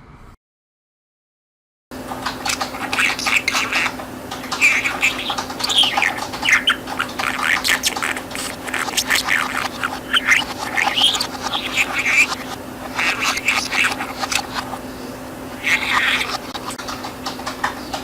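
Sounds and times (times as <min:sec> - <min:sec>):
steady low hum: 0:02.0 - 0:18.0
budgerigar chattering: 0:02.3 - 0:18.0.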